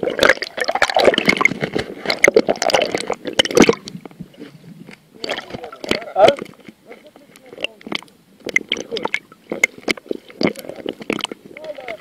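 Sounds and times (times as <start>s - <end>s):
water bubbling underwater: 0.0s - 12.0s.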